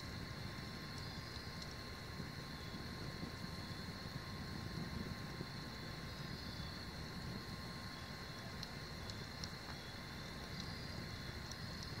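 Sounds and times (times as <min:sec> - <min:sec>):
campfire flame rumble: 0:00.0 - 0:12.0
fire crackles: 0:00.0 - 0:12.0.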